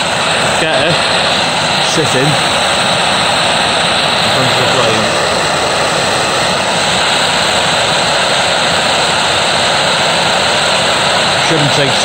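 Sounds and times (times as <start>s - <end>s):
blowtorch hissing: 0.0s - 12.0s.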